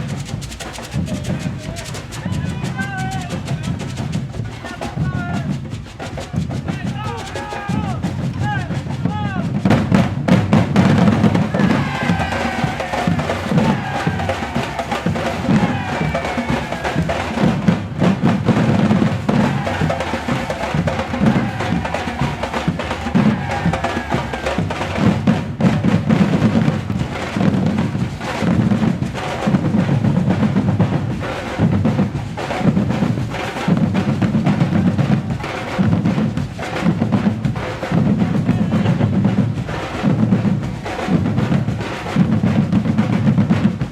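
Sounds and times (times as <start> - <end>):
drum ensemble playing: 0.0 - 43.9
snare and hand-drum rolls: 0.0 - 43.9
deep bass drums pounding: 7.7 - 43.9.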